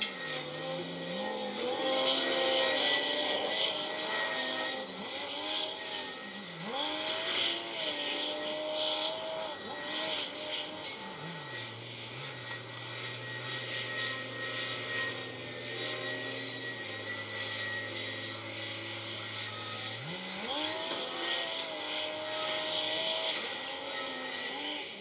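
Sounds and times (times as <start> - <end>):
heavy diesel engines revving: 0.4 - 24.8.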